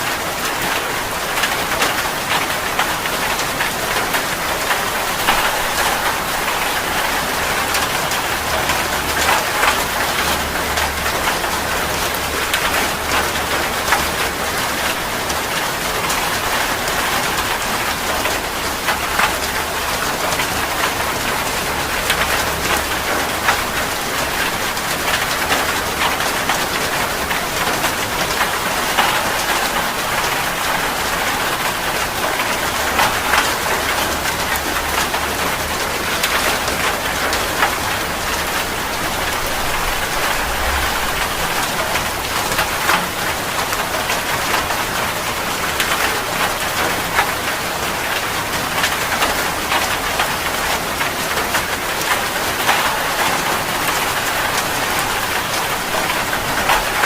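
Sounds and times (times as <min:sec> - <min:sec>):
heavy rain patter: 0:00.0 - 0:57.0.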